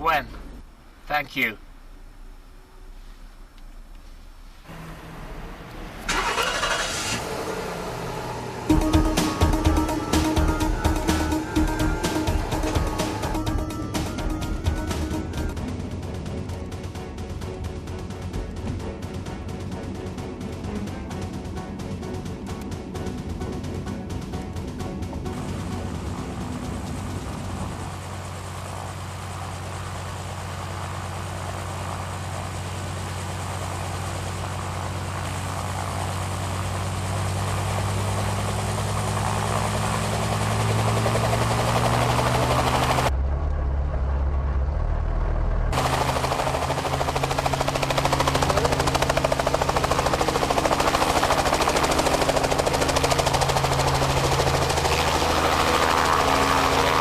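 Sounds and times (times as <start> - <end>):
helicopter turbine and rotor: 4.7 - 43.1, 45.7 - 57.0.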